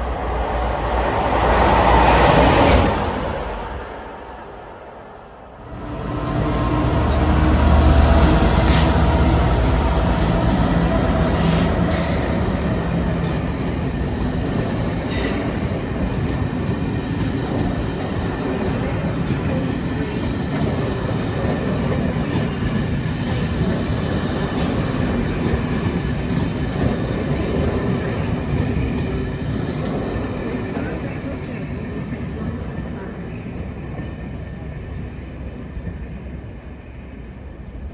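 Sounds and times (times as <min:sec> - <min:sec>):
train passing at speed: 0:00.0 - 0:37.9.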